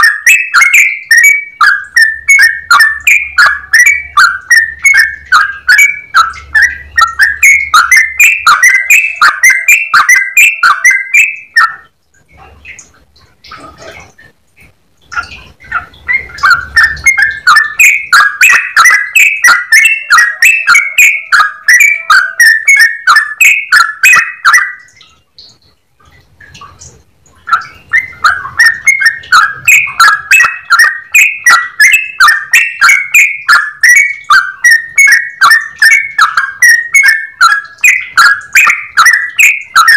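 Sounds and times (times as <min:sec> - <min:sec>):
bird singing bubbling notes: 0:00.0 - 0:39.9.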